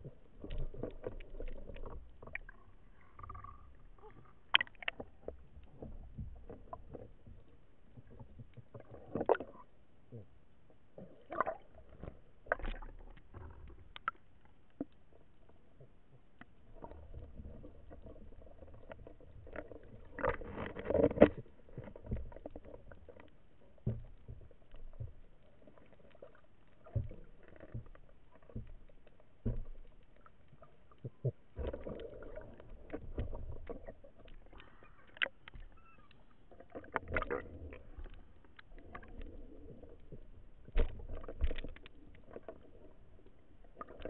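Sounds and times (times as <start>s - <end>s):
water sloshing and splashing: 0.0s - 10.3s, 11.0s - 44.0s.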